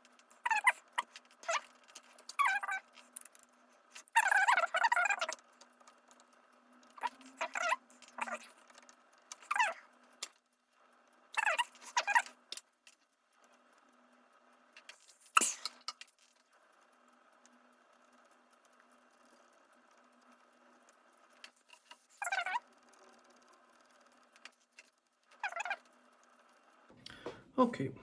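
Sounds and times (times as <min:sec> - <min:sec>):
cloth rubbing squeakily on surface: 0:00.1 - 0:10.2, 0:11.3 - 0:12.4, 0:14.9 - 0:26.9.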